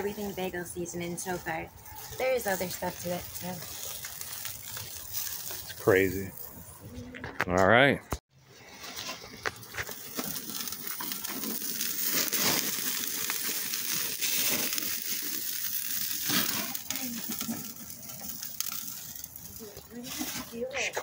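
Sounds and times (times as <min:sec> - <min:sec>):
grill fire sizzling: 0:00.0 - 0:07.0, 0:08.4 - 0:21.0
fire crackling: 0:00.0 - 0:21.0.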